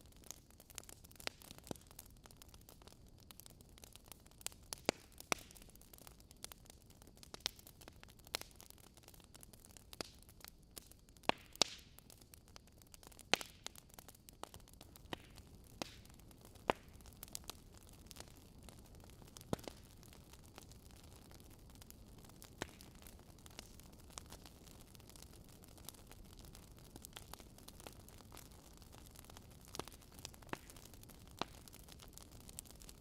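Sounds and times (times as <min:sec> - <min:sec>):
faint steady hiss: 0:00.0 - 0:33.0
fire crackling and popping: 0:00.0 - 0:33.0.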